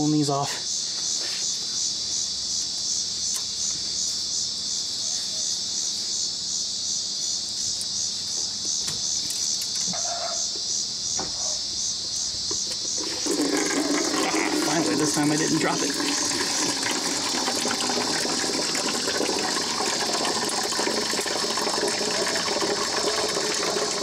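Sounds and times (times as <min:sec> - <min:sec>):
insect chirping: 0:00.0 - 0:24.0.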